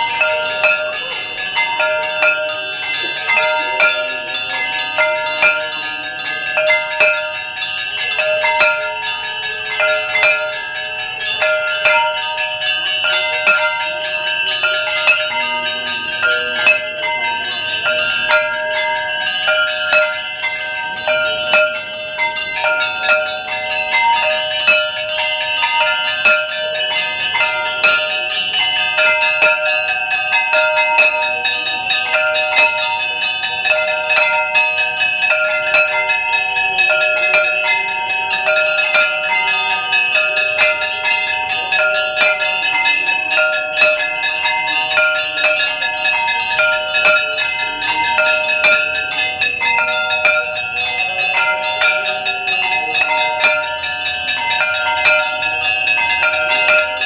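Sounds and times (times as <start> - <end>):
temple bells ringing: 0.0 - 57.0.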